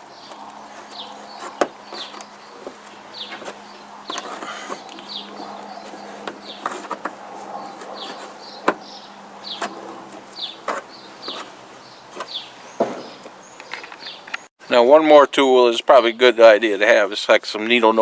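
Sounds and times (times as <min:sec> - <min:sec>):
bird chirping: 0:00.0 - 0:14.8.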